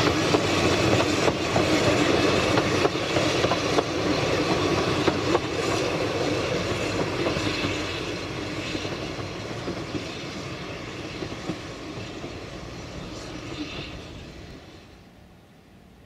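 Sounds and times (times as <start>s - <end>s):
train clattering along track: 0.0s - 16.0s.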